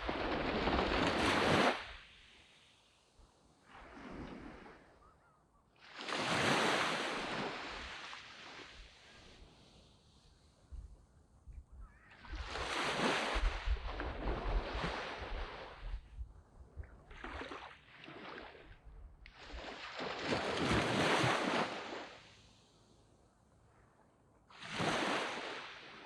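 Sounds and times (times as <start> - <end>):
waves breaking on beach: 0.0 - 5.1, 5.7 - 10.7, 12.1 - 16.1, 17.0 - 22.9, 24.5 - 26.0.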